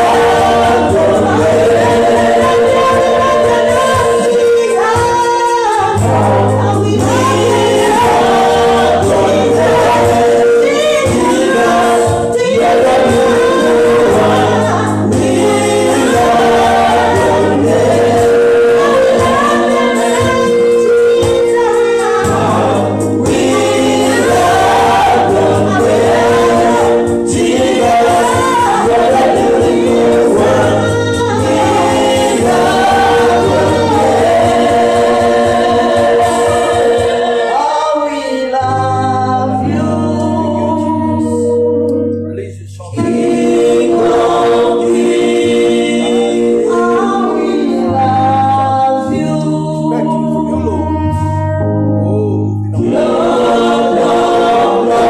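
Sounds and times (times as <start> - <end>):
gospel singers: 0.0 - 55.0
held keyboard chords: 0.0 - 55.0.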